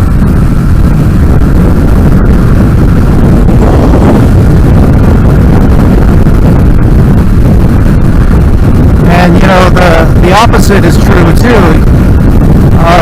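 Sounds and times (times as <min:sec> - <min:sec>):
motorcycle engine: 0:00.0 - 0:13.0
road noise: 0:00.0 - 0:13.0
wind buffeting microphone: 0:00.0 - 0:13.0.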